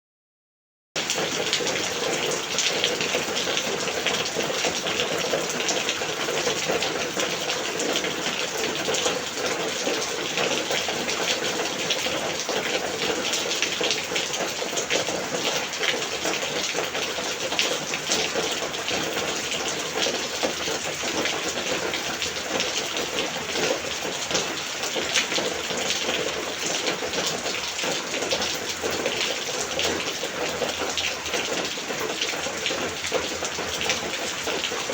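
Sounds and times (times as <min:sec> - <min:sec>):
heavy rain falling: 0:01.0 - 0:34.9.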